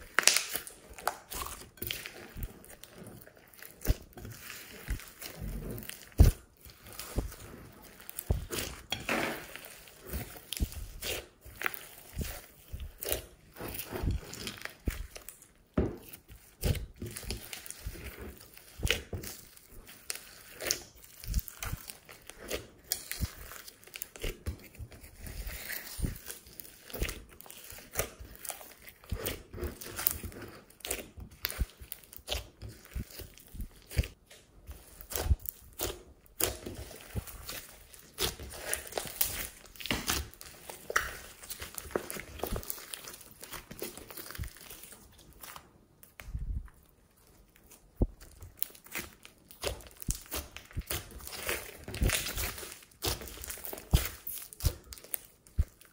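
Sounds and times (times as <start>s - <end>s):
slime squelching and popping: 0.0s - 55.9s.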